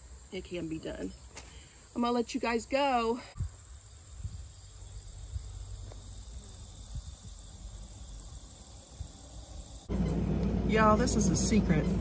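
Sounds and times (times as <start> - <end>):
crickets trilling: 0.0 - 9.9.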